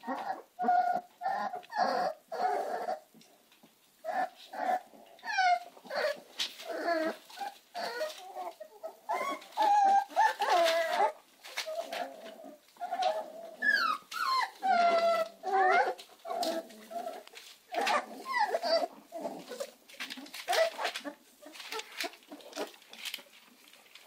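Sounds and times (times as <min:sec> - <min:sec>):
puppies whimpering and squealing: 0:00.0 - 0:03.1, 0:04.0 - 0:23.2.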